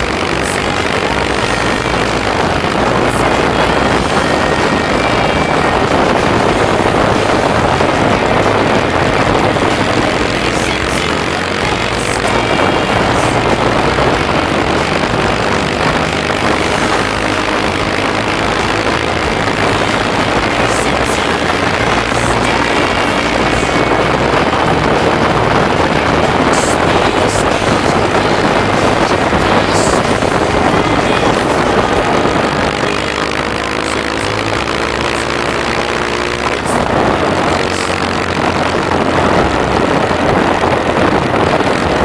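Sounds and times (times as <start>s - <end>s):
motorcycle engine running: 0.0s - 42.0s
road noise: 0.0s - 42.0s
wind rush: 0.0s - 42.0s.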